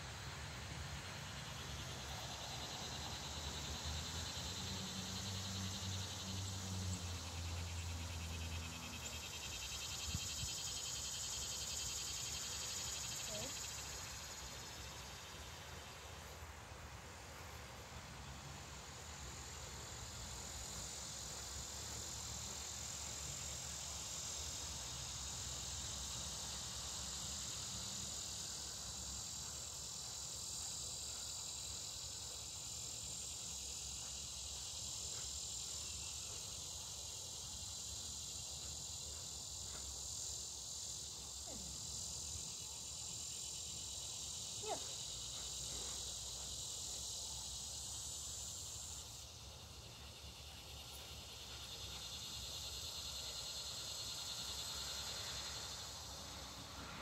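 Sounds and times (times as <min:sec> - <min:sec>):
insects trilling: 0:00.0 - 0:16.4, 0:18.2 - 0:57.0.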